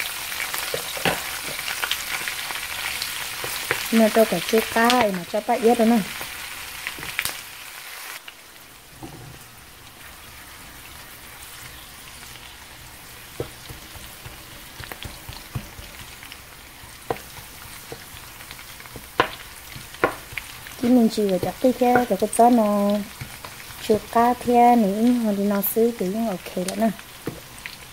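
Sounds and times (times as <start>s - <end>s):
food sizzling in hot oil: 0.0s - 27.9s.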